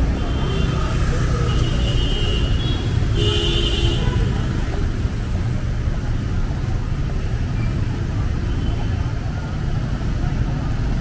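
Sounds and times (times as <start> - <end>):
cars and motorbikes passing: 0.0 - 11.0.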